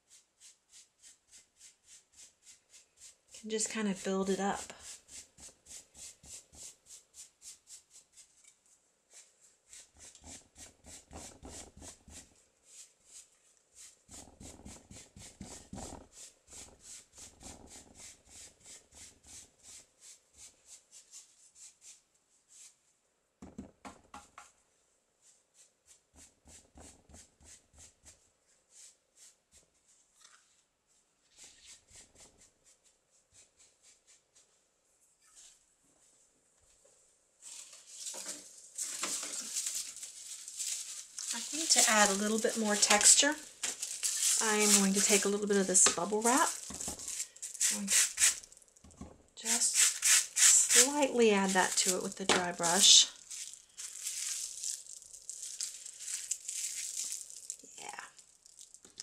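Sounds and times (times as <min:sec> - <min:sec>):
sponge dabbing paint on canvas: 0:00.0 - 0:24.6, 0:25.2 - 0:30.1, 0:30.9 - 0:34.6, 0:37.5 - 0:59.0.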